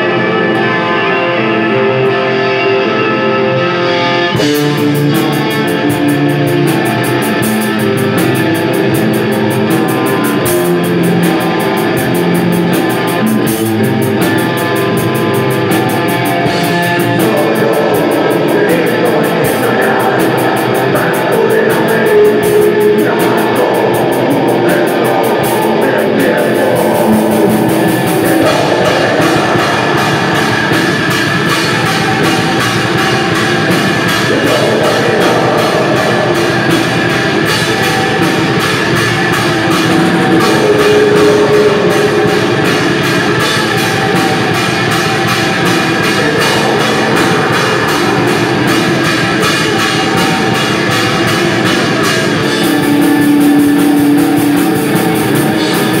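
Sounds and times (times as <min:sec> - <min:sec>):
bass guitar: 0:00.0 - 0:56.0
distorted electric guitars: 0:00.0 - 0:56.0
fast dense drumming: 0:04.3 - 0:56.0.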